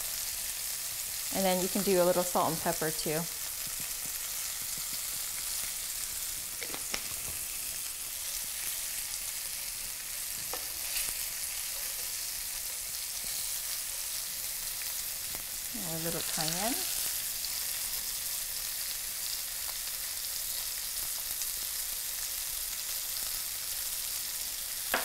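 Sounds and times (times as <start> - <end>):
shrimp sizzling in a pan: 0.0 - 25.0.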